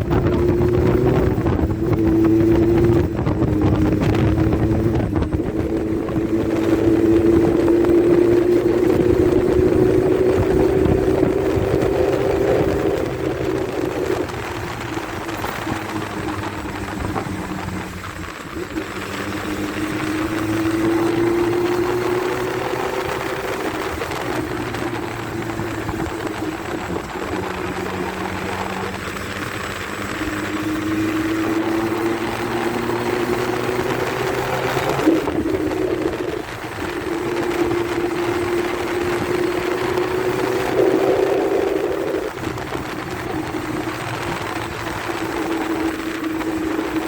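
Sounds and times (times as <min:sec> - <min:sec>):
motorcycle engine accelerating: 0:00.0 - 0:47.0
wind rushing: 0:00.0 - 0:47.0.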